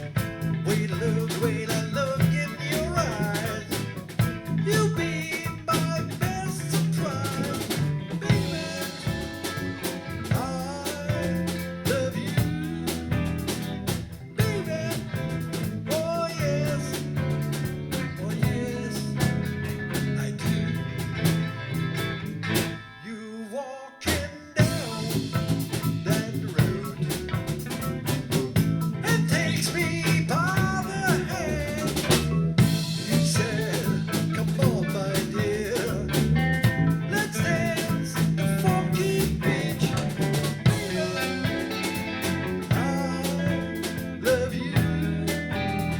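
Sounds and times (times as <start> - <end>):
steady bass line: 0.0 - 22.8, 24.6 - 45.9
drum kit: 0.0 - 22.9, 24.1 - 45.9
funky rock band groove: 0.0 - 23.0, 24.1 - 45.9.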